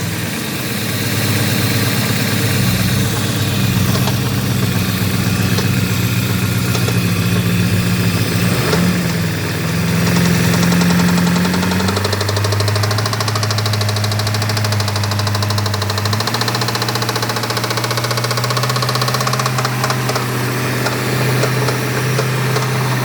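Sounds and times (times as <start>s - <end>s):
car engine idling: 0.0s - 23.0s
fast engine clacking: 0.0s - 23.0s.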